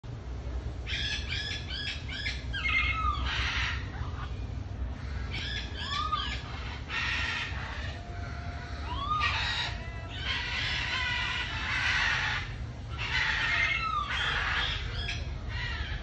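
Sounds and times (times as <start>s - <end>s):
parakeets chirping and screeching: 0.8s - 16.0s.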